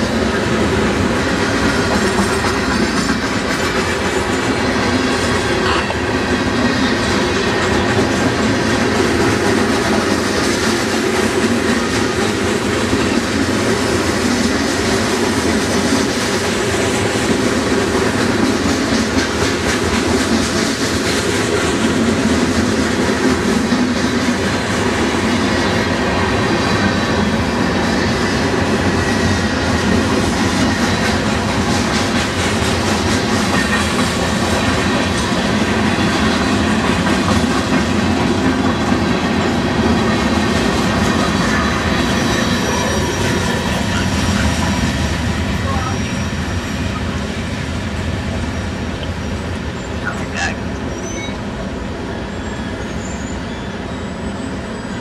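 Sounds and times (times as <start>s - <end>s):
steel wheels on rails: 0.0s - 55.0s.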